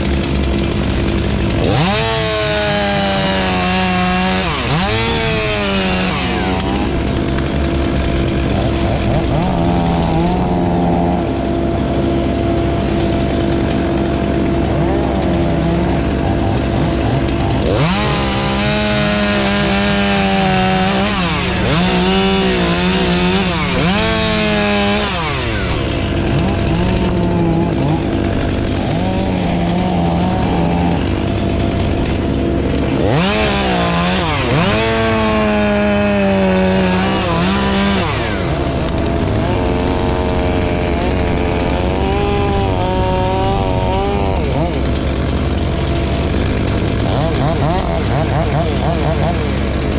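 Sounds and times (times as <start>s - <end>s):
chainsaw running: 0.0s - 49.9s.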